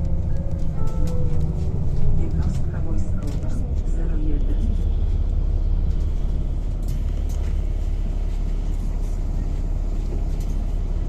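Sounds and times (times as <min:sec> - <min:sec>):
bus engine rumbling: 0:00.0 - 0:11.0.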